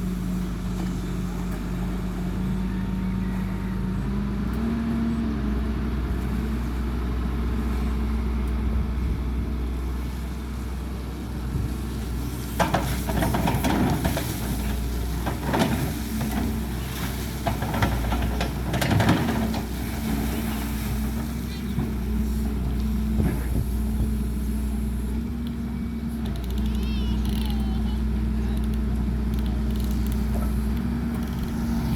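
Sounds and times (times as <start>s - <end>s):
excavator engine humming: 0.0s - 31.9s.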